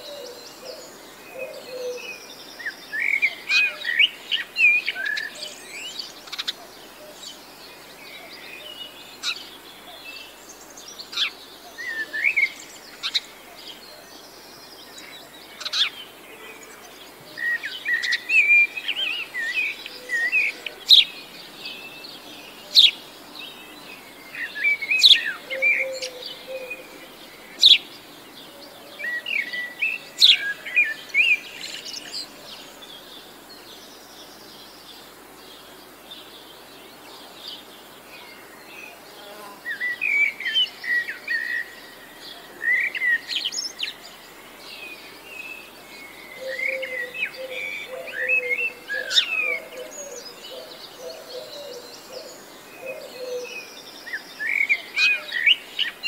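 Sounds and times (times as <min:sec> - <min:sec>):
birds chirping and singing: 0:00.0 - 0:34.9, 0:37.0 - 0:56.0.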